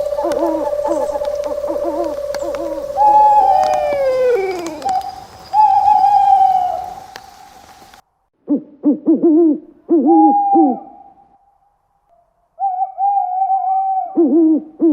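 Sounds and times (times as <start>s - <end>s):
owl hooting: 0.0s - 11.4s, 12.6s - 14.9s.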